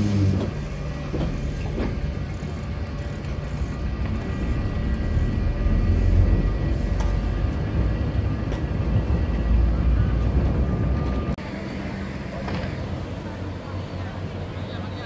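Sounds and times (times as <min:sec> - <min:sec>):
tram rolling on rails: 0:00.0 - 0:15.0.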